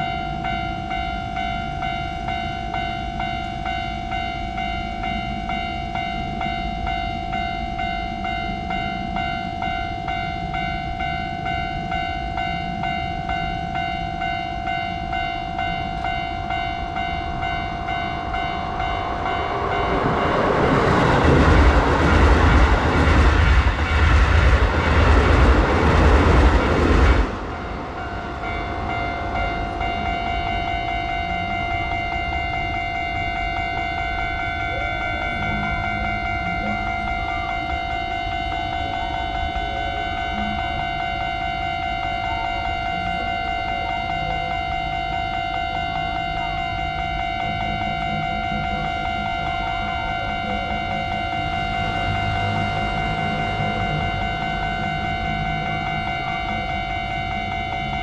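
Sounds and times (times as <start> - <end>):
level-crossing bell dinging: 0.0 - 58.0
train rumble and wheel noise: 0.0 - 58.0.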